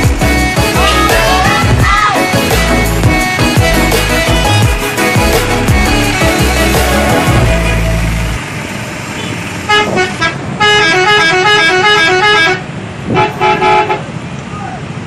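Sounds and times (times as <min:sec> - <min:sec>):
multi-tone bus horn melody: 0:00.0 - 0:14.1
street noise: 0:00.0 - 0:15.0.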